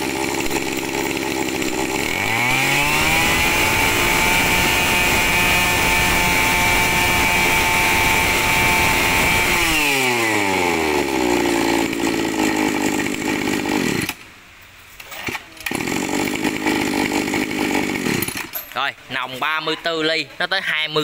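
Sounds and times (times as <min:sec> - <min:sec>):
brush cutter engine revving: 0:00.0 - 0:14.2, 0:15.2 - 0:18.5.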